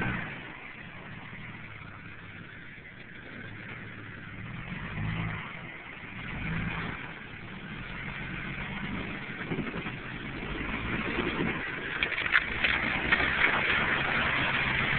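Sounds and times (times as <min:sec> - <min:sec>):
car engine revving under load: 0:00.0 - 0:14.9.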